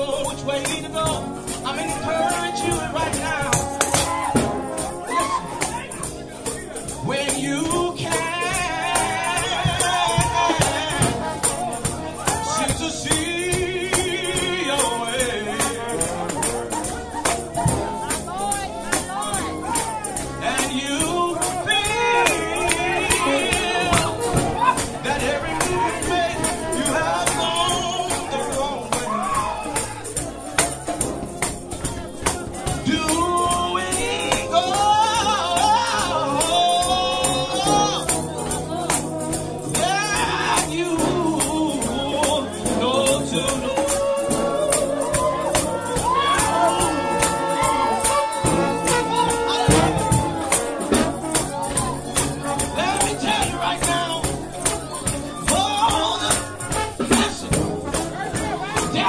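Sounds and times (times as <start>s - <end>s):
gospel singing: 0.0s - 59.0s
tambourine beat: 0.0s - 59.0s.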